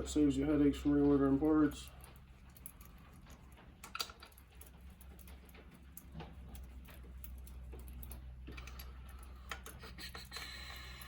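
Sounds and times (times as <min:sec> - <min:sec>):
low steady hum: 0:00.0 - 0:11.0
light clicks of small bolts: 0:00.8 - 0:11.0.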